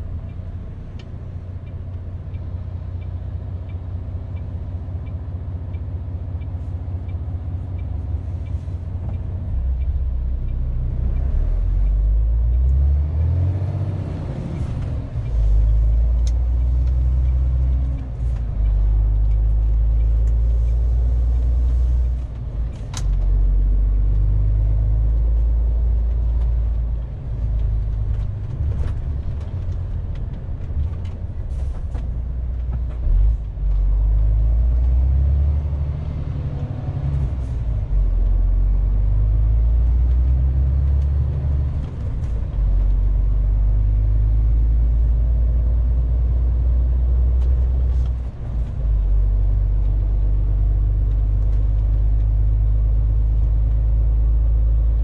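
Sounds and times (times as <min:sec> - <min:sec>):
truck diesel engine: 0:00.0 - 0:55.0.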